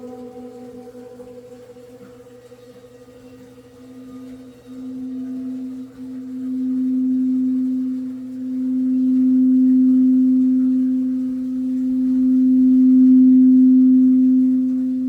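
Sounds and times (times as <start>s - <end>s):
singing bowl low tone: 0.0s - 15.0s.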